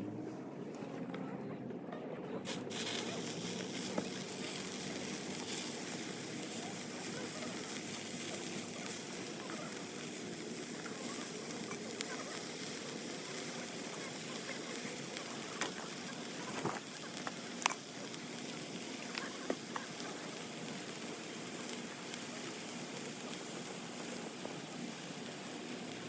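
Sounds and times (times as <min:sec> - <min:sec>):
wood fire crackling: 0:02.5 - 0:26.0.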